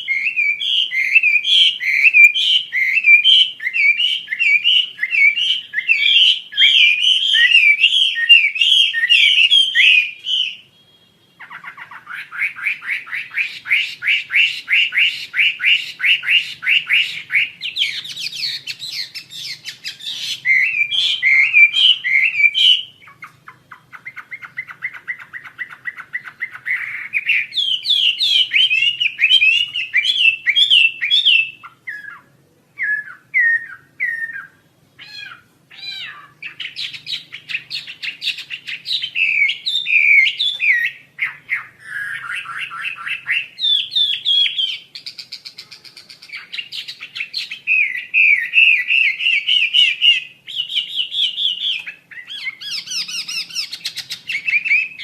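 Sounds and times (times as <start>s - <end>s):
songbird chattering song: 0.0s - 55.0s.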